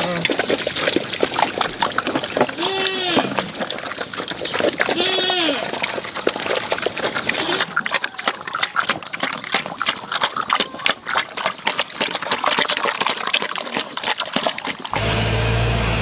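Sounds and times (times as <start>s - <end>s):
farm animals: 0.0s - 16.0s.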